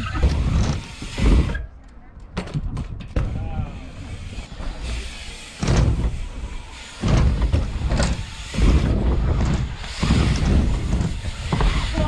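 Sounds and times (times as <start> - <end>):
bike tyres rolling on ramps: 0.0 - 12.0.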